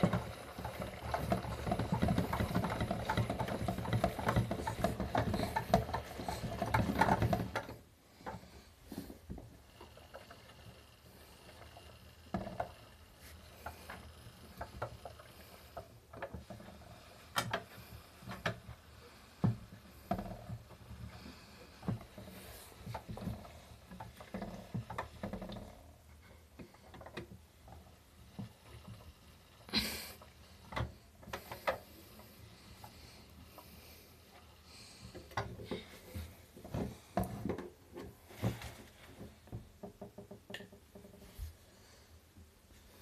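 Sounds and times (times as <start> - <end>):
toy washing machine water sloshing: 0.0 - 40.3.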